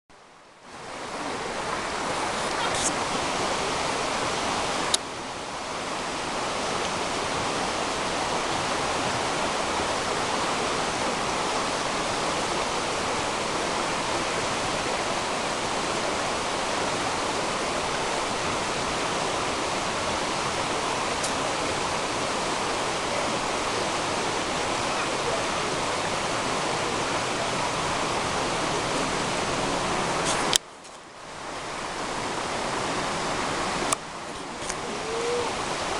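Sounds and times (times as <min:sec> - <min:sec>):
running water rushing: 0:00.2 - 0:35.9.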